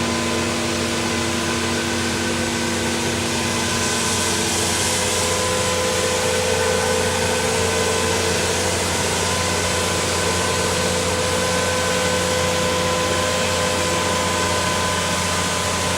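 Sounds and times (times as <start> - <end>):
concrete pump engine drone: 0.0 - 15.9
wide hiss: 0.1 - 15.9.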